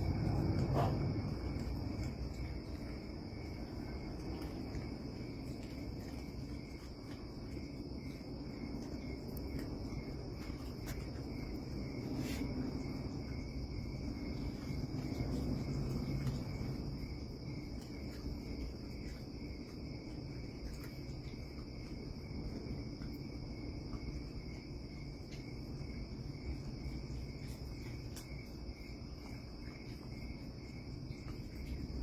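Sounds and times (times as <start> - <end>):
crickets trilling: 0.0 - 32.0
low background rumble: 0.0 - 32.0.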